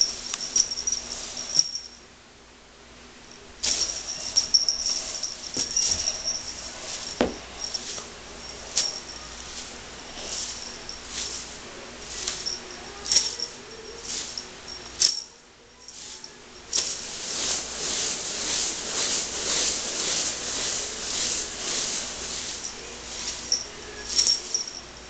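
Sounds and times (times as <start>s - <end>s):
cat toy rattling and jingling: 0.0s - 2.0s, 3.6s - 25.0s.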